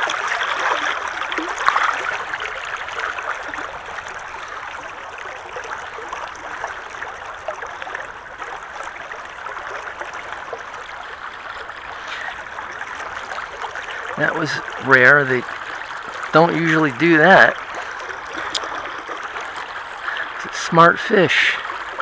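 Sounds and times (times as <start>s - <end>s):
water splash: 0.0s - 20.8s
stream running over rocks: 0.0s - 22.0s.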